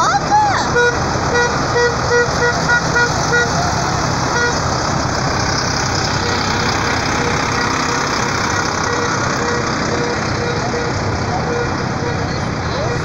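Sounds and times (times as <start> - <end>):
tractor diesel engines passing: 0.0 - 13.0.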